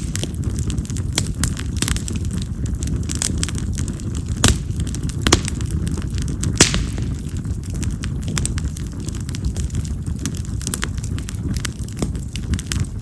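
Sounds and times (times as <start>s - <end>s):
fire crackling and popping: 0.0s - 13.0s
firewood burning: 0.0s - 13.0s.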